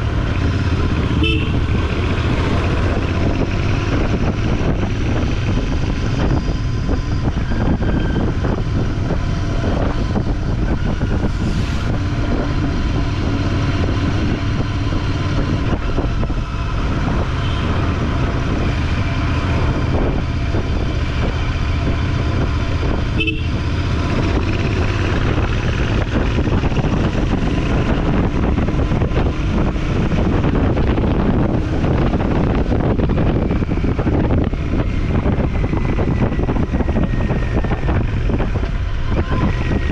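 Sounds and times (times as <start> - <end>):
motorcycle engine: 0.0 - 39.9
road noise: 0.0 - 39.9.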